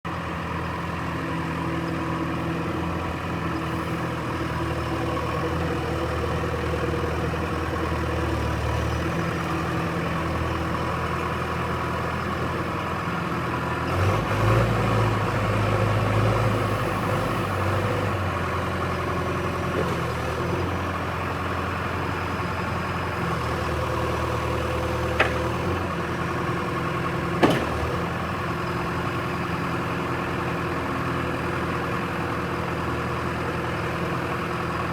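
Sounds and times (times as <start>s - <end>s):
diesel engine idling and revving: 0.1s - 34.9s.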